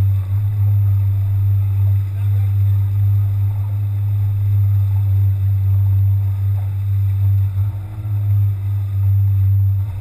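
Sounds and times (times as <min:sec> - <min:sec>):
boat moving through water: 0:00.0 - 0:10.0
outboard motor humming: 0:00.0 - 0:10.0.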